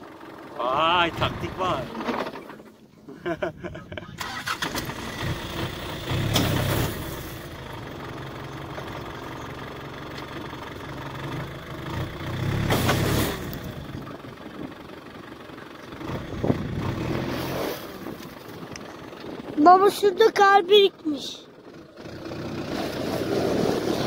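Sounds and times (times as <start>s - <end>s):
off-road vehicle engine revving: 0.0s - 2.8s, 4.1s - 24.0s.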